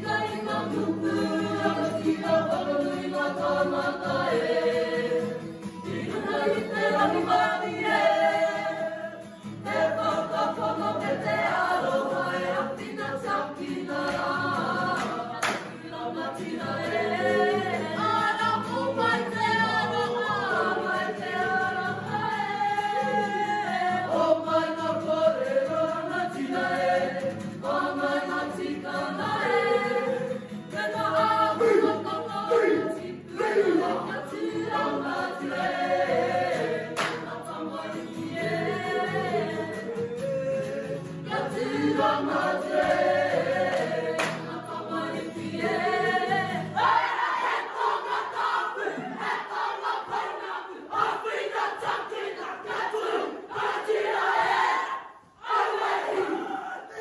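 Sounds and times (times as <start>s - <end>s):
group singing: 0.0s - 57.0s.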